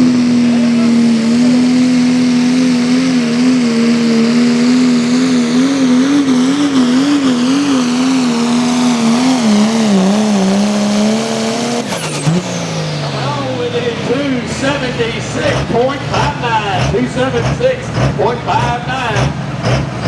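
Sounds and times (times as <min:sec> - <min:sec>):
pulling tractor engine under load: 0:00.0 - 0:20.0.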